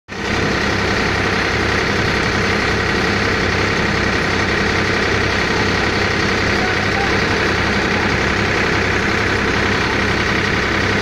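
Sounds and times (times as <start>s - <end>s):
threshing machine and tractor engine: 0.1s - 11.0s.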